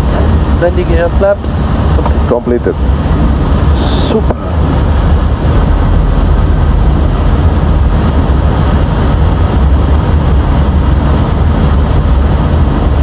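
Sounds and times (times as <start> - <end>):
airplane engines and airflow rumble: 0.0 - 13.0.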